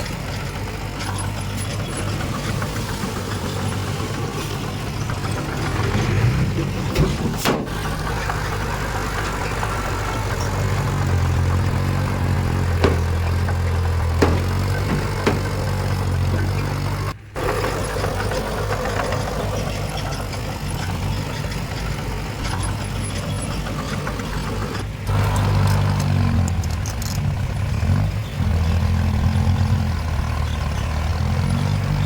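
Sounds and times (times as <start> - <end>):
heavy machinery diesel engines: 0.0 - 32.0.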